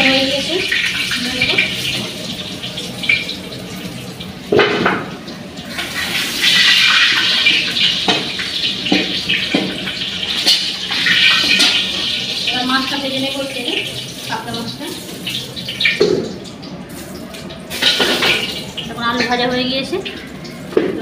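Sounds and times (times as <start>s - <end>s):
potatoes sizzling in hot oil: 0.0s - 16.2s, 16.9s - 20.0s.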